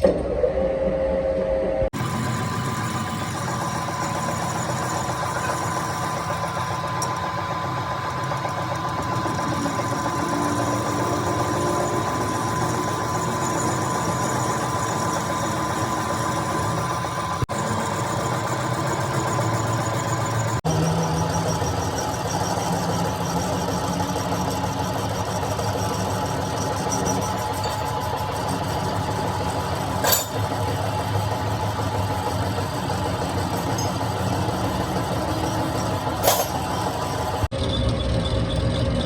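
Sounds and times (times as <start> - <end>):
motor running with high whine: 0.0 - 39.0.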